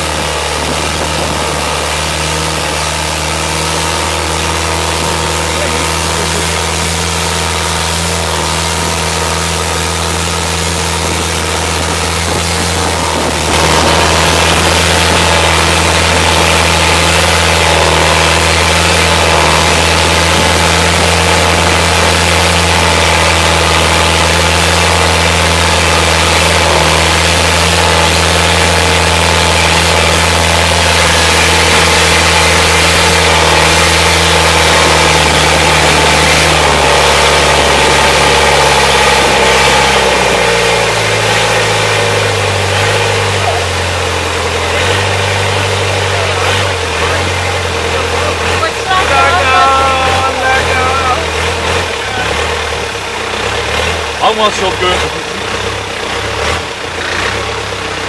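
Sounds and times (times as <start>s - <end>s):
boat engine running hard: 0.0s - 58.0s
wind: 0.0s - 58.0s.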